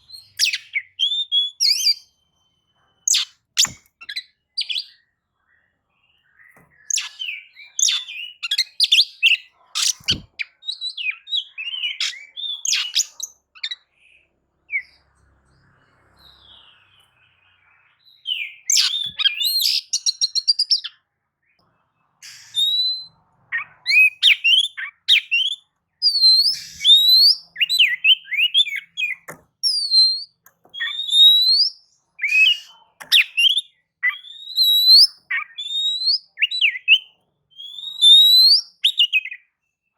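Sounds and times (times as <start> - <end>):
bird song whistles and trills: 0.0 - 39.9.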